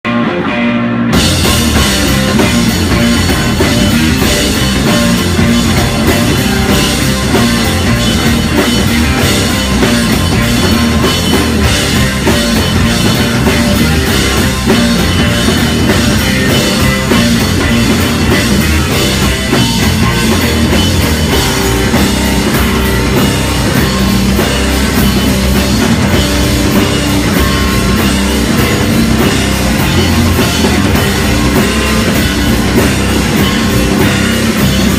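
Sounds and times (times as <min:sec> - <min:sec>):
bass guitar: 0:00.0 - 0:34.9
electric guitar: 0:00.0 - 0:34.9
drum kit: 0:00.1 - 0:34.9.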